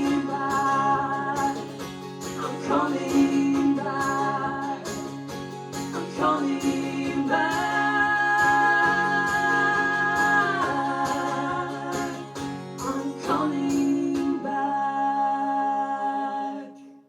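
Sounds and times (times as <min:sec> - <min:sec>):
strummed guitar: 0:00.0 - 0:16.4.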